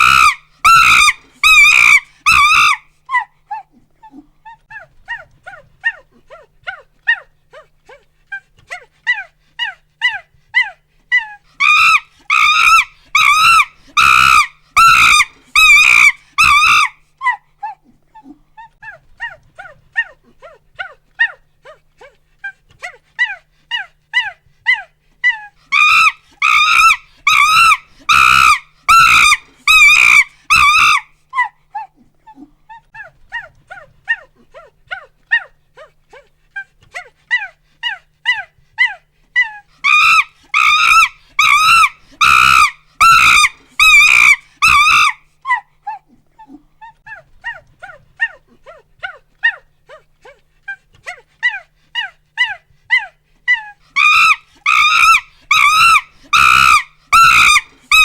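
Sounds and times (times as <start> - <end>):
chimpanzee pant-hoots and screams: 0.0 - 58.0.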